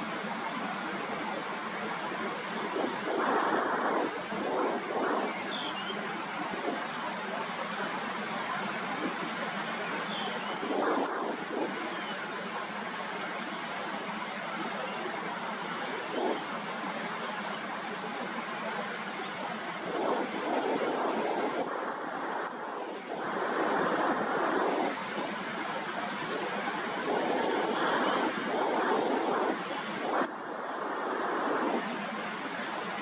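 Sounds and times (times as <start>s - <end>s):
sea waves breaking on shore: 0.0s - 33.0s
wind on microphone: 0.0s - 33.0s.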